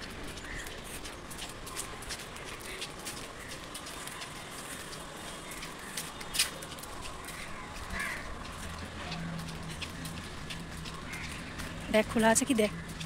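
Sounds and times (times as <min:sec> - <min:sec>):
footsteps on brick path: 0:00.0 - 0:13.0.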